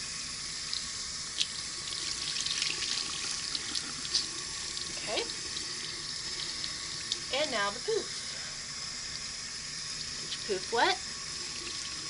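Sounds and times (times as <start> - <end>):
tap water running into sink: 0.0 - 12.0.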